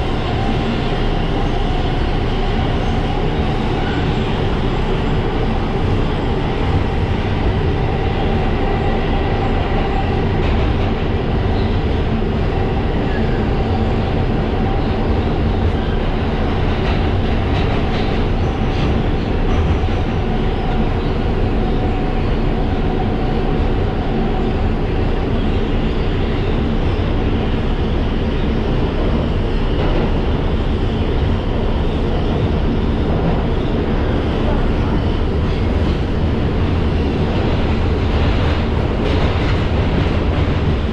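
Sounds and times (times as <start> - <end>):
subway wheels rumbling on rails: 0.0 - 40.9.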